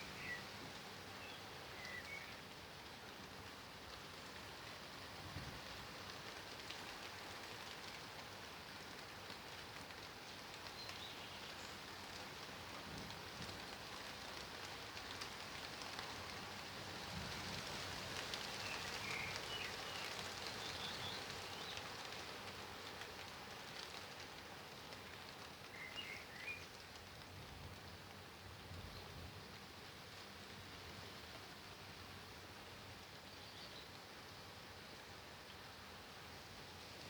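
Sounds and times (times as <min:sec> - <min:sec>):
rain pattering on surfaces: 0:00.0 - 0:37.0.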